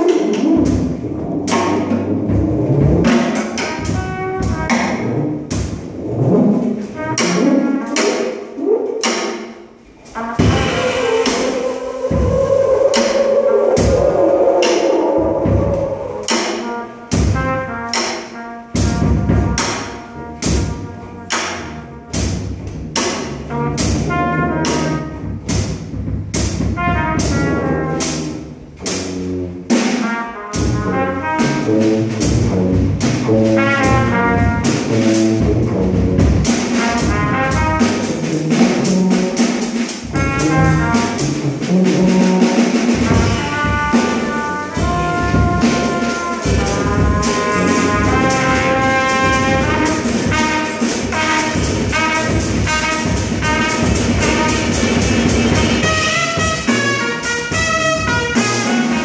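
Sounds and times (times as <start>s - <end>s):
drum kit: 0.0s - 59.0s
tuba low notes: 0.0s - 59.0s
trumpet melody: 2.9s - 5.2s, 10.1s - 22.4s, 23.5s - 25.2s, 26.7s - 28.4s, 29.2s - 59.0s.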